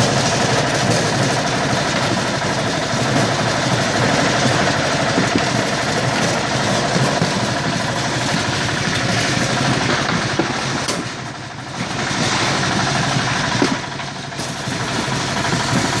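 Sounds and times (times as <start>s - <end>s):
grading machine rattling and humming: 0.0s - 16.0s.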